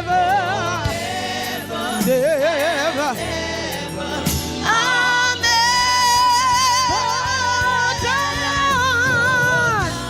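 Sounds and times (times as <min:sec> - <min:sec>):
gospel worship music: 0:00.0 - 0:10.0.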